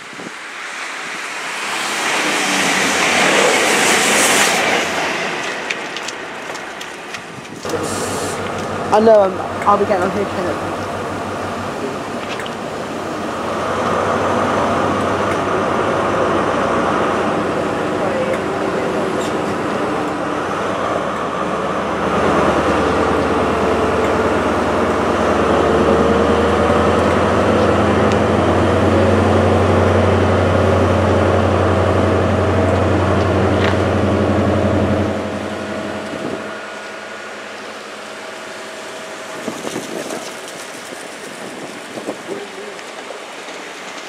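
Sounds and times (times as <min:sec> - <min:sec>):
diesel locomotive engine drone: 0:00.0 - 0:44.0
train coaches rolling on rails: 0:00.0 - 0:44.0.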